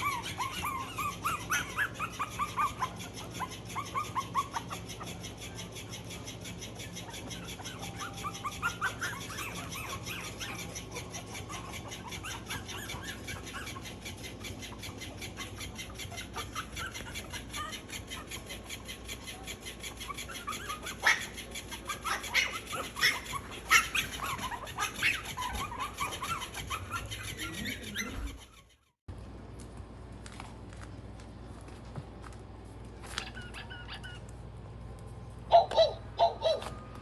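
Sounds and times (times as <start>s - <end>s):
puppy yelps: 0.0s - 28.9s, 33.0s - 34.4s, 35.5s - 37.0s
puppies whimpering and squeaking: 0.0s - 29.0s, 33.0s - 34.6s, 35.5s - 37.0s.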